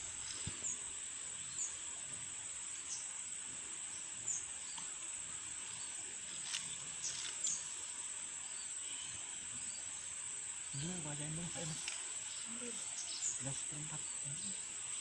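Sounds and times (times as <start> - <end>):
faint hiss: 0.0 - 15.0
insects trilling: 0.0 - 15.0.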